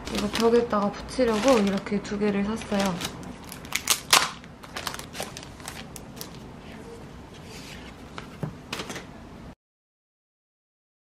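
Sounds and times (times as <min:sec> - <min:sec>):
paper and plastic wrapping rustling: 0:00.0 - 0:09.0.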